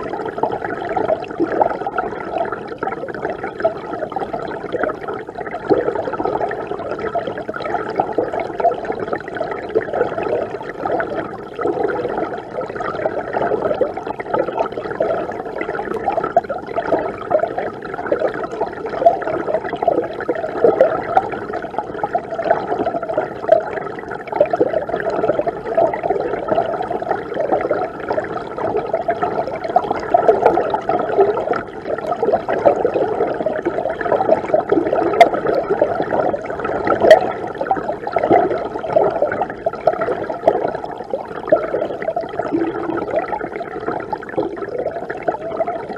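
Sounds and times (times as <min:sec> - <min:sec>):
muffled underwater river rushing: 0:00.0 - 0:45.9.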